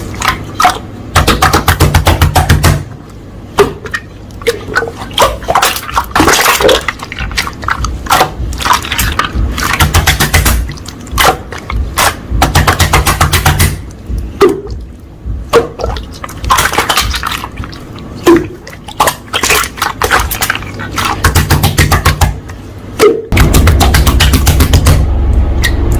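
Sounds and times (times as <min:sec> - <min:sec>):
slime squishing: 0:00.0 - 0:22.7.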